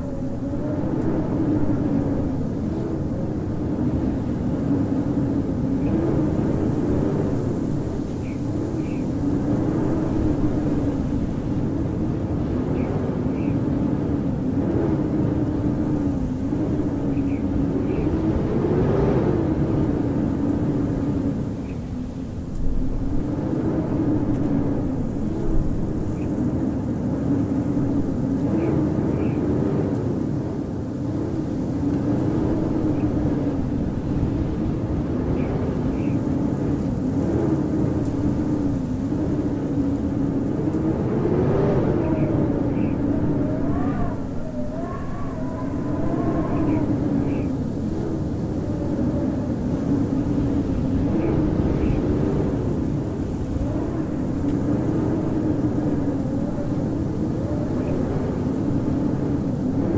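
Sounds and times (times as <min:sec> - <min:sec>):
howling wind: 0:00.0 - 0:59.9.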